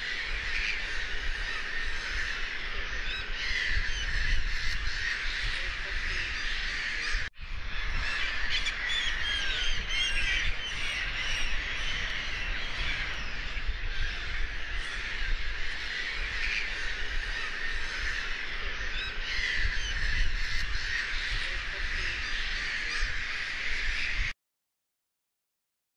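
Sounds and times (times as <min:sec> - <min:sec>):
gulls squawking: 0:00.0 - 0:24.3.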